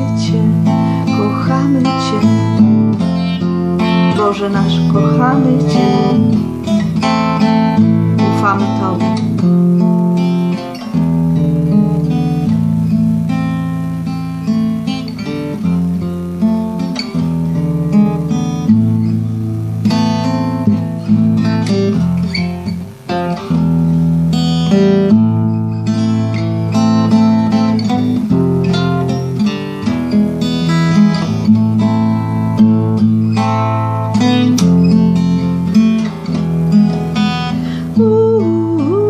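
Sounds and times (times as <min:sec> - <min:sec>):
acoustic guitar strumming chords: 0:00.0 - 0:39.0.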